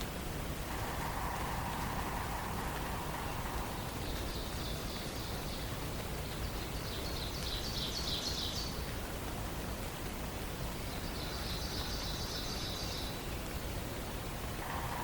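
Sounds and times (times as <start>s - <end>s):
forest background hiss: 0.0s - 15.0s.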